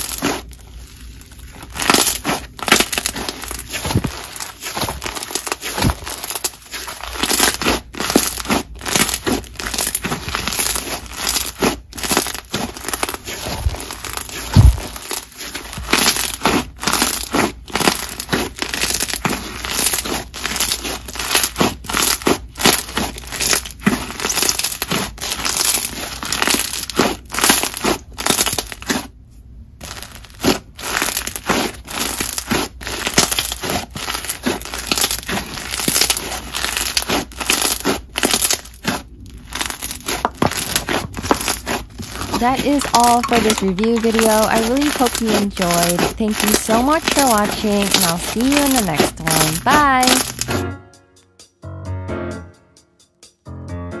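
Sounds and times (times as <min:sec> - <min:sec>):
slime crunching and popping: 0:00.0 - 0:50.6.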